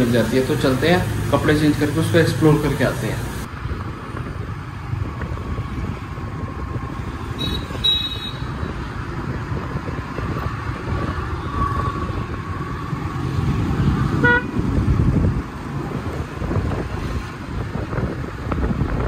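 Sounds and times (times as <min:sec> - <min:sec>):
low rumble of traffic: 0:00.0 - 0:19.0.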